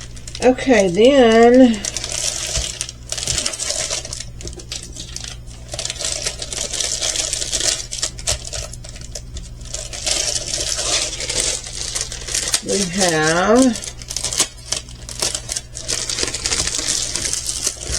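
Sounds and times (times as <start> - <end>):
plastic packaging rustling: 0.0 - 17.9.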